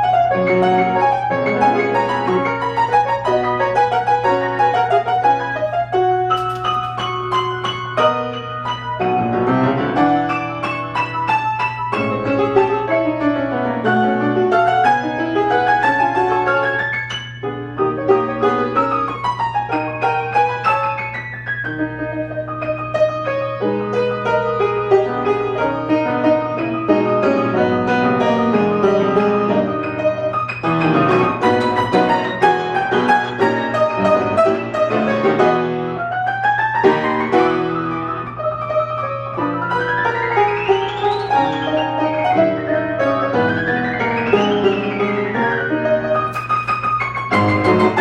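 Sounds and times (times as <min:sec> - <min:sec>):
solo piano playing fast: 0:00.0 - 0:48.0.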